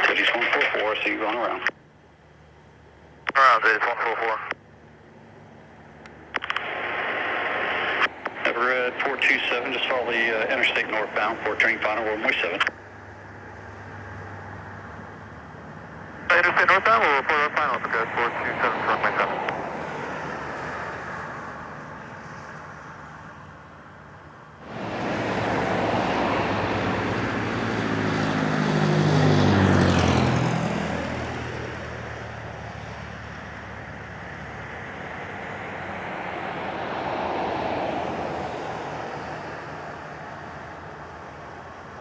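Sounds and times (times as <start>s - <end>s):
light aircraft engine passing: 0.0s - 42.0s.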